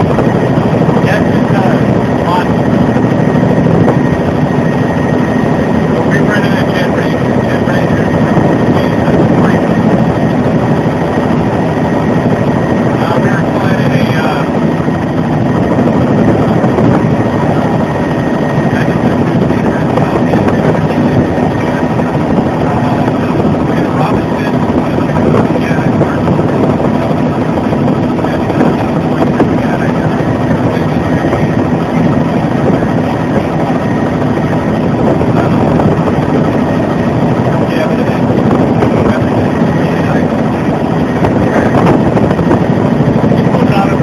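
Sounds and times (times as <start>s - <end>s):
faint whine: 0.0s - 44.0s
helicopter rotor and engine drone: 0.0s - 44.0s.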